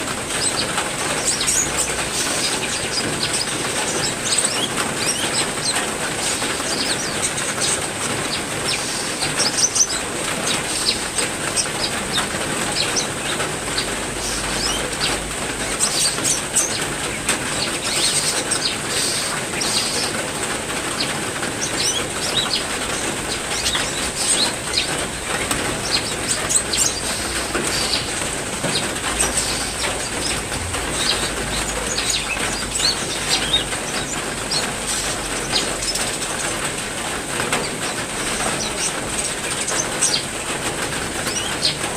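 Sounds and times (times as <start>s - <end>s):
songbirds chirping: 0.0s - 36.5s, 41.2s - 41.9s
heavy rain: 0.0s - 41.9s.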